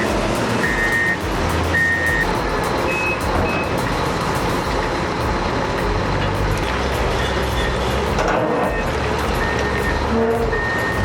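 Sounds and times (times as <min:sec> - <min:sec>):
reversing alarm beeping: 0:00.0 - 0:04.9, 0:07.0 - 0:11.0
heavy machinery engine rumble: 0:00.0 - 0:11.0.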